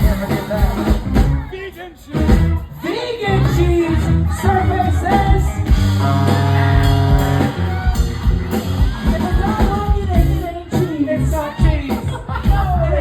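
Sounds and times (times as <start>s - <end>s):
rock music with singing: 0.0s - 13.0s.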